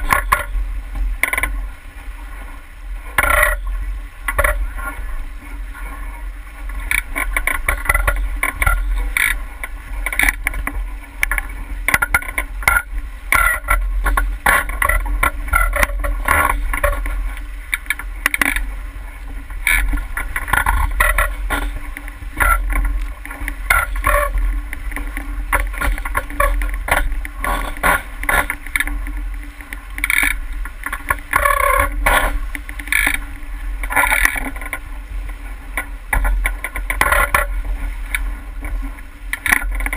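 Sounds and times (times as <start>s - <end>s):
boat low rumble: 0.0s - 39.9s
water splashing against hull: 0.0s - 39.9s.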